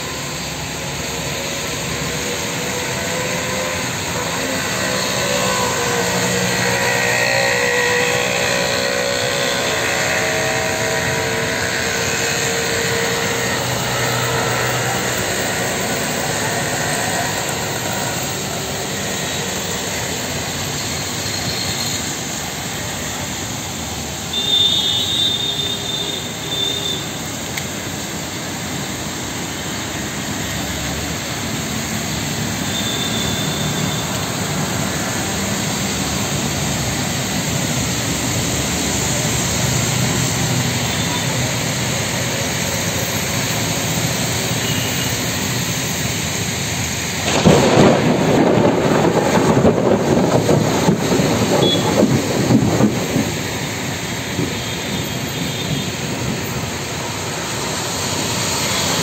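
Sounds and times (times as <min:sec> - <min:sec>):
heavy rain on street: 0:00.0 - 0:59.0
traffic on wet road: 0:00.0 - 0:59.0.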